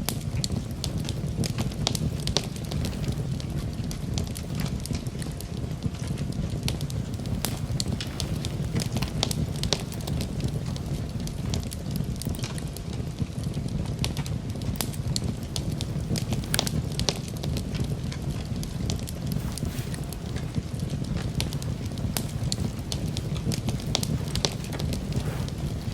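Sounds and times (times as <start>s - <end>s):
campfire crackling and popping: 0.0s - 25.9s
low rumble of flames: 0.0s - 25.9s.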